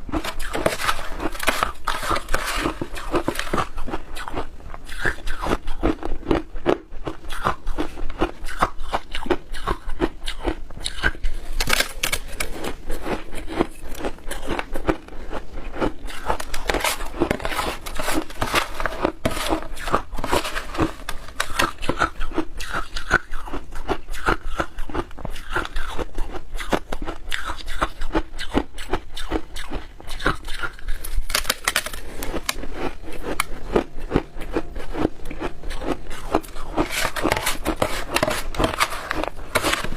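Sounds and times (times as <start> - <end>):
ice being chewed and crunched: 0.0 - 39.9.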